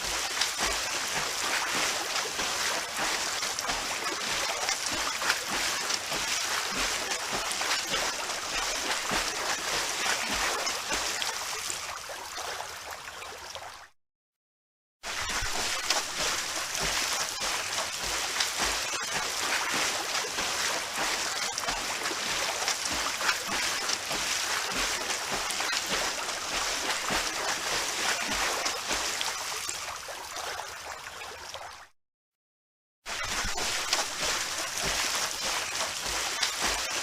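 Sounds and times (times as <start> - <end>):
swimmers splashing in a pool: 0.0 - 13.0, 15.1 - 31.1, 33.1 - 37.0.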